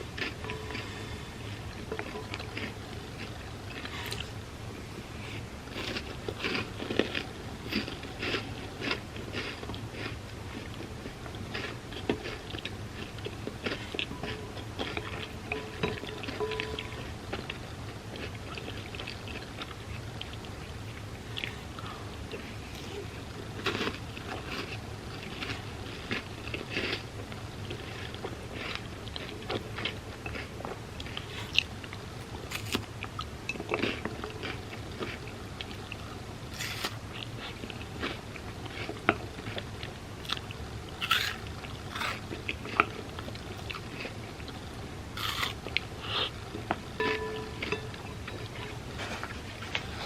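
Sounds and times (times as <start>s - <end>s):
chewing and crunching cereal: 0.0s - 4.4s, 5.6s - 50.0s.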